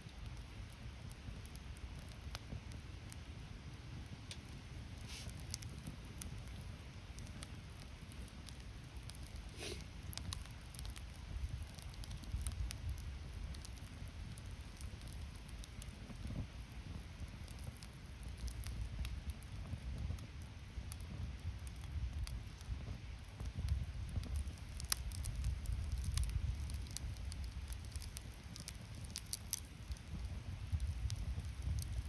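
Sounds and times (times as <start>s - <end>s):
bonfire crackling and popping: 0.0s - 32.0s
low rumble of fire: 0.0s - 32.0s.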